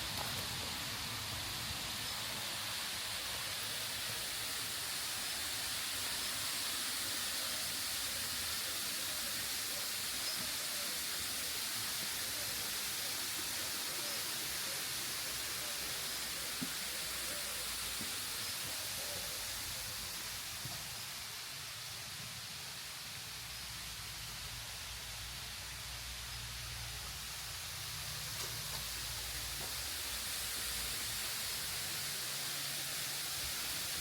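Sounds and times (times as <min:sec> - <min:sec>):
waterfall rushing: 0:00.0 - 0:21.9, 0:27.4 - 0:34.0.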